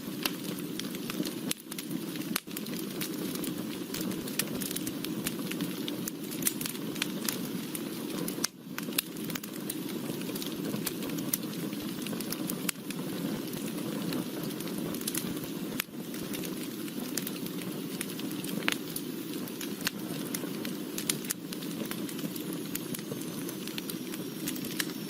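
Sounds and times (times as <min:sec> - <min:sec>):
fire crackling and popping: 0:00.0 - 0:25.0
fire flames rushing: 0:00.0 - 0:25.0.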